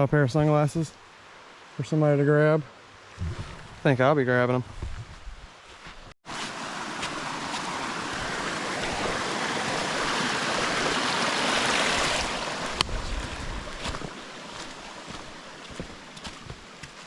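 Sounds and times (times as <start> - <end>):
stream water rushing: 0.0 - 3.8, 6.2 - 17.0.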